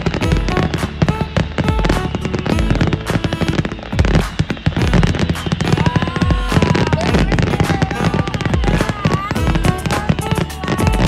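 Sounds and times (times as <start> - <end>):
background music: 0.0 - 11.0
fireworks bangs and crackles: 0.0 - 11.0
low rumble: 0.0 - 11.0.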